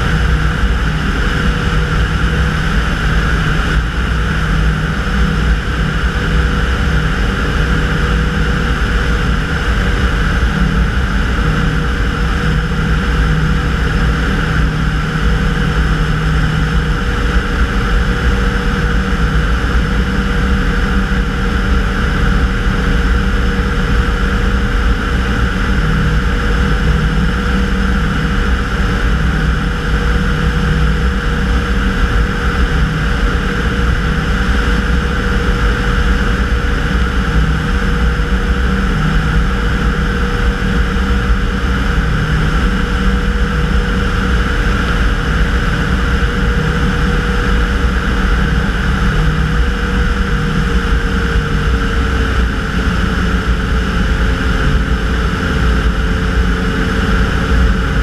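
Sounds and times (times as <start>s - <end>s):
engine and propeller droning: 0.0s - 58.0s
wind rumble on microphone: 0.0s - 58.0s.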